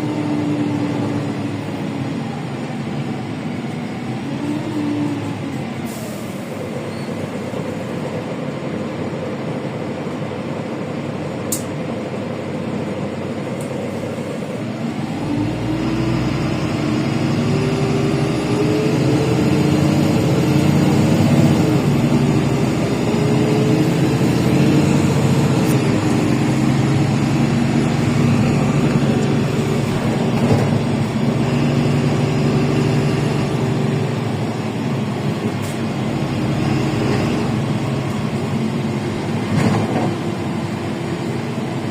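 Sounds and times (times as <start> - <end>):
bus engine drone: 0.0 - 41.9.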